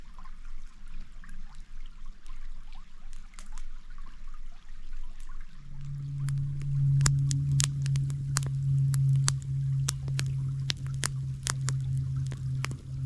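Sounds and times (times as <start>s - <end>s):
small stream babbling: 0.0s - 13.0s
steady low hum: 0.0s - 13.0s.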